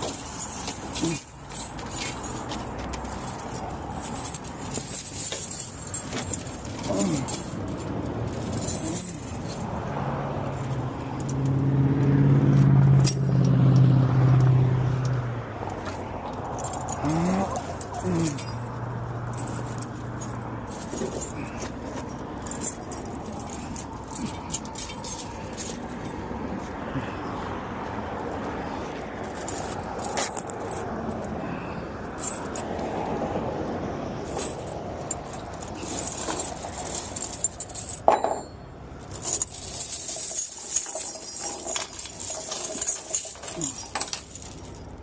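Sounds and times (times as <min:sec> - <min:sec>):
tire chains clinking and rattling: 0:00.0 - 0:45.0
vehicle engine humming: 0:00.0 - 0:45.0.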